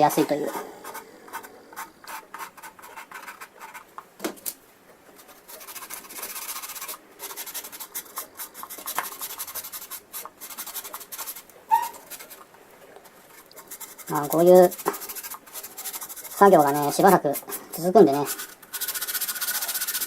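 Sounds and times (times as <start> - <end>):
abrasive rubbing on plastic: 0.0 - 4.0, 5.1 - 20.0.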